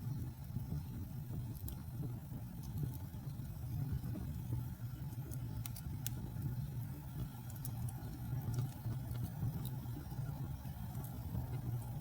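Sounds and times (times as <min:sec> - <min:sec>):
fire crackling and popping: 0:00.0 - 0:12.0
fire flames rumbling: 0:00.0 - 0:12.0.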